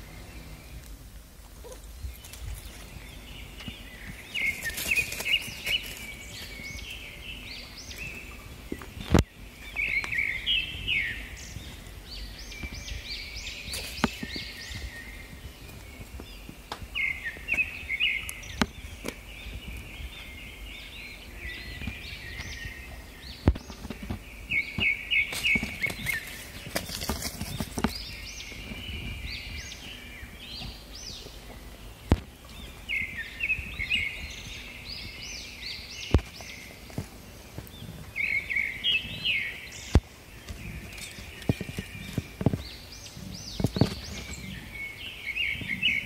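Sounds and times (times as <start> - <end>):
outdoor background noise: 0.0 - 46.0
small birds chirping: 0.0 - 46.0.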